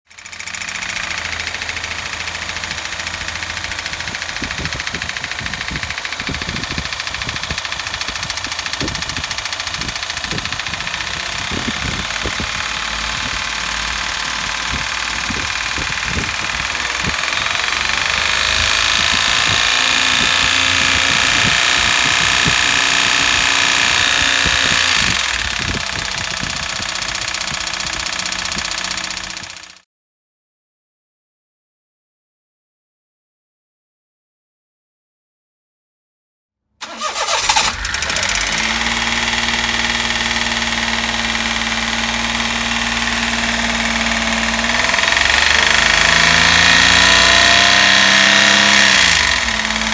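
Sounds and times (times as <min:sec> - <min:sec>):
engine running with knocking: 0:00.1 - 0:29.8, 0:36.8 - 0:49.9.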